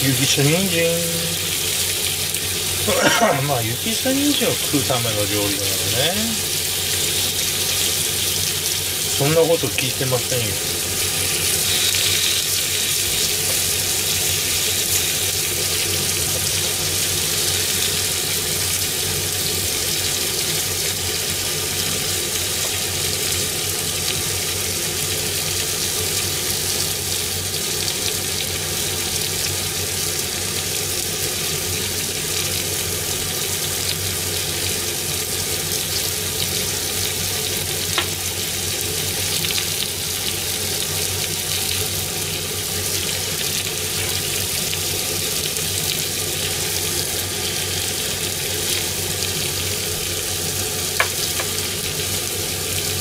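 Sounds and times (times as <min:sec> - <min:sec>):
meat and vegetables sizzling in pan: 0:00.0 - 0:53.0.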